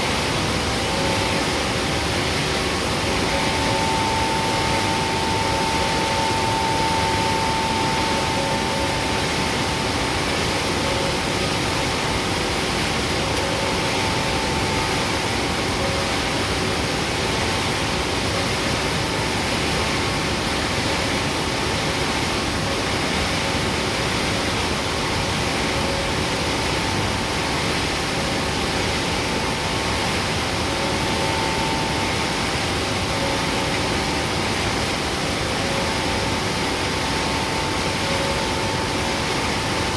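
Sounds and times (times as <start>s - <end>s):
faint steady whine: 0.0s - 39.9s
mill machinery running: 0.0s - 39.9s.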